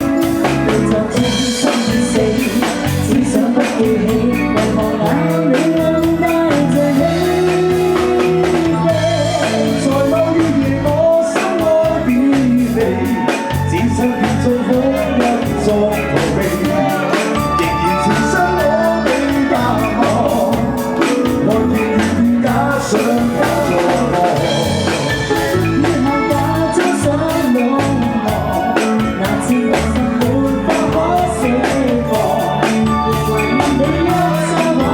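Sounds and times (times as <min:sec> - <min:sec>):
band music: 0:00.0 - 0:34.9
drum kit beat: 0:00.0 - 0:34.9.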